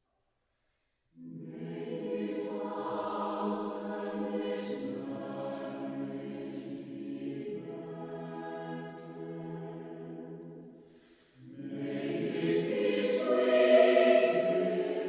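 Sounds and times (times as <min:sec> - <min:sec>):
choir singing a cappella: 0:01.2 - 0:10.6, 0:11.4 - 0:15.0.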